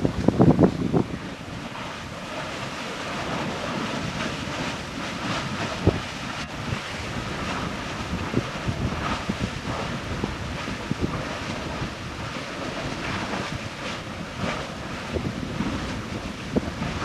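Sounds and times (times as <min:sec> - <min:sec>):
lava churning and spattering: 0:00.0 - 0:17.0
wind buffeting microphone: 0:00.0 - 0:17.0.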